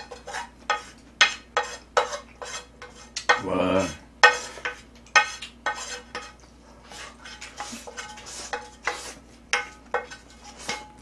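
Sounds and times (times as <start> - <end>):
metal utensil scraping metal pan: 0.0 - 11.0.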